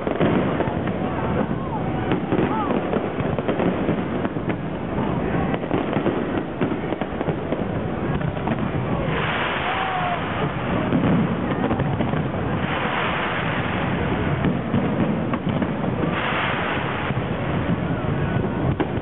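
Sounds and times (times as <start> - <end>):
dense crackling hiss: 0.0 - 19.0
fireworks bangs and crackles: 0.0 - 19.0.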